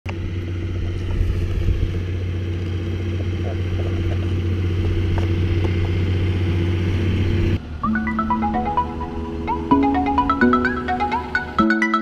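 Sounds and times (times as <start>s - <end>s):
tractor diesel engine under load: 0.0s - 11.6s.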